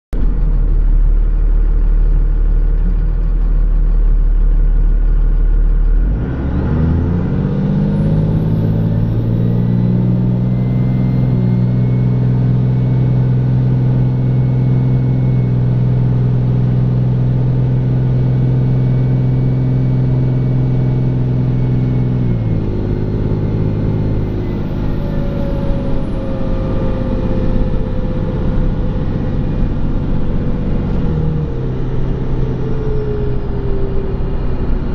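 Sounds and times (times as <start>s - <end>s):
diesel engine pulling hard: 0.2s - 34.9s.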